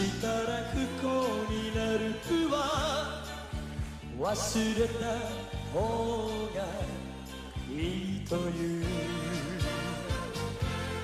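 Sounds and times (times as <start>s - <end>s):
band playing slow ballad: 0.0s - 11.0s
man singing with vibrato: 0.0s - 11.0s.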